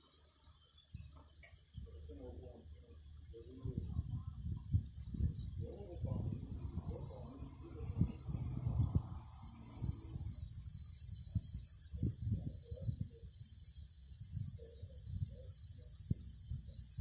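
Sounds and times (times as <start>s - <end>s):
cicadas singing: 0.0s - 17.0s.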